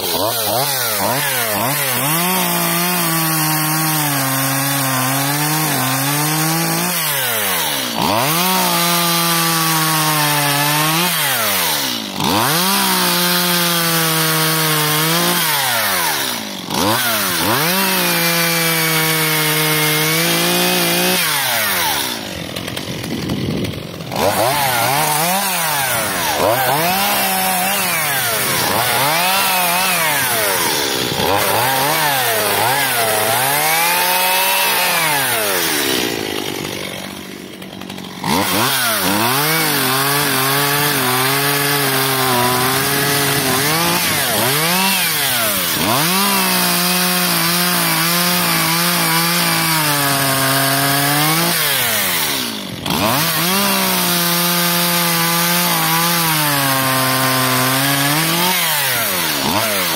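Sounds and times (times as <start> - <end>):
chainsaw cutting logs: 0.0 - 59.9.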